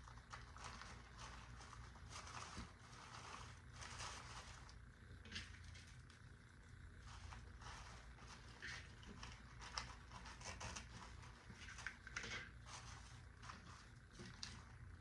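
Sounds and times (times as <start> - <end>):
plastic leaves rustling: 0.0 - 6.1, 7.0 - 15.0.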